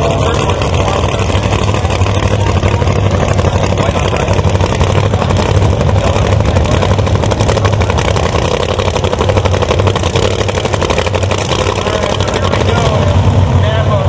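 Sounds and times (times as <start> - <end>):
race car engine running: 0.0 - 14.0.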